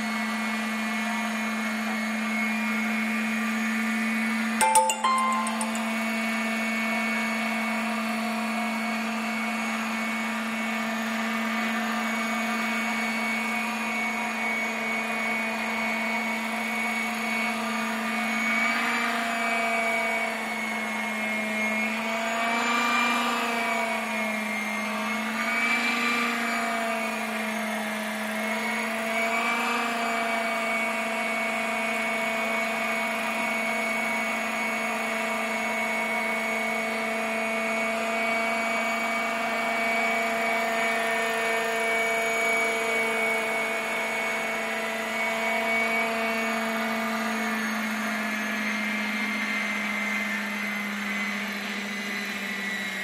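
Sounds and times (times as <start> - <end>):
electric helicopter motor whine: 0.0 - 4.3, 8.6 - 53.0.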